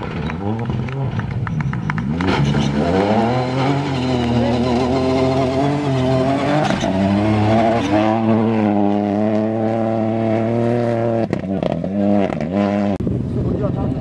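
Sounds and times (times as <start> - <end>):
rally car engine running hard: 0.0 - 14.0.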